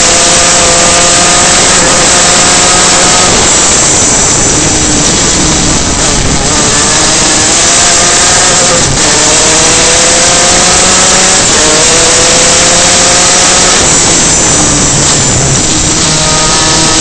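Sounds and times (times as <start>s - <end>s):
kart engine revving: 0.0s - 17.0s
wind rush on microphone: 0.0s - 17.0s.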